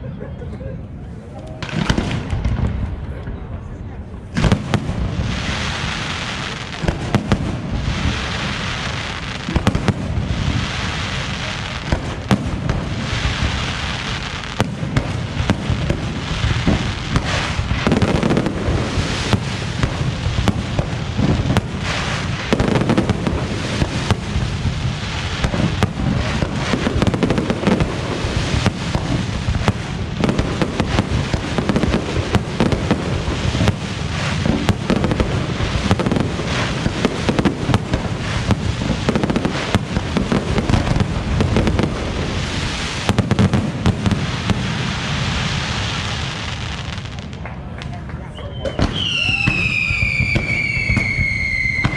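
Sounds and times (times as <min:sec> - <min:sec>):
fireworks crackling and hissing: 0:00.7 - 0:51.9.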